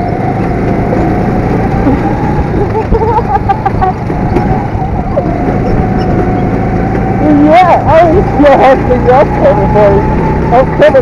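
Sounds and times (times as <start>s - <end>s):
constant low rumble: 0.0s - 11.0s
go-kart engine running: 0.0s - 11.0s.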